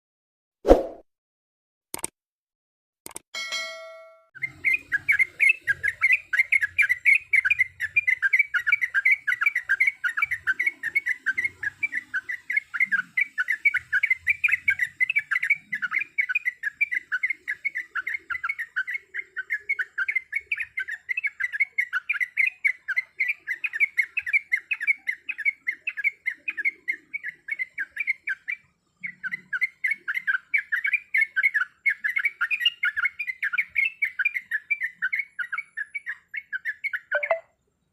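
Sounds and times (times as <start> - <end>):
bird warbling song: 4.4 - 37.6.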